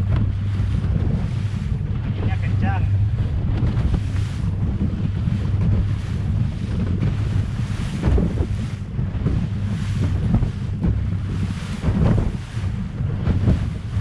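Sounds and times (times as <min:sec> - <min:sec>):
strong wind buffeting microphone: 0:00.0 - 0:14.0
waves washing: 0:00.0 - 0:14.0.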